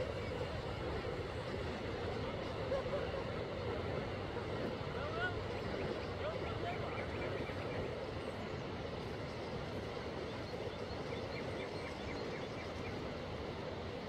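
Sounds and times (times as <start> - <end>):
outdoor background rush: 0.0 - 14.0.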